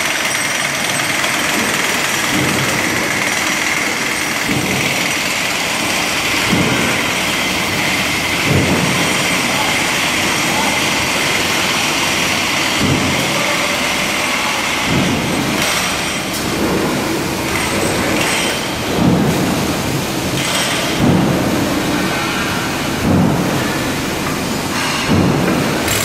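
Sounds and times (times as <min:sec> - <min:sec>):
demolition hammer chipping concrete: 0:00.0 - 0:26.0.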